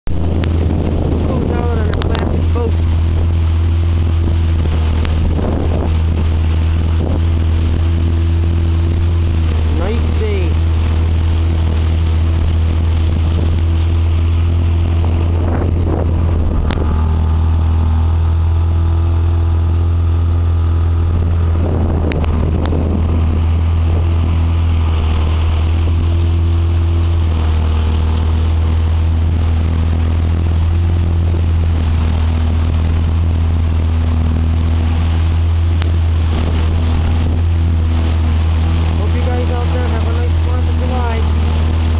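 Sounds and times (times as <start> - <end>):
boat engine humming: 0.0 - 41.9
water rushing along hull: 0.0 - 41.9.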